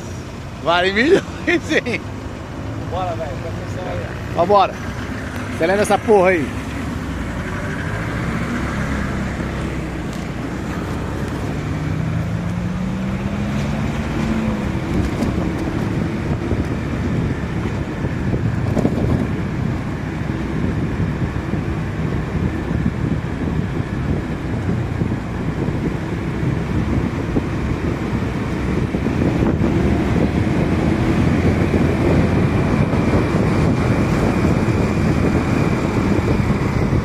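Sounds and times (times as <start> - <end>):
vehicle engine running: 0.0 - 37.0
wind buffeting microphone: 0.0 - 37.0.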